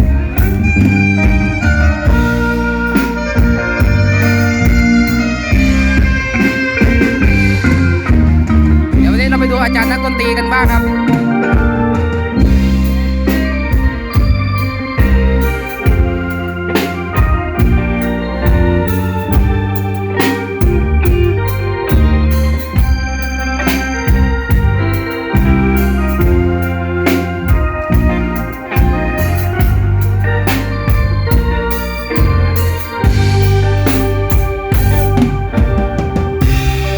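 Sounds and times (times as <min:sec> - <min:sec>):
live band with organ keyboard: 0:00.0 - 0:36.9.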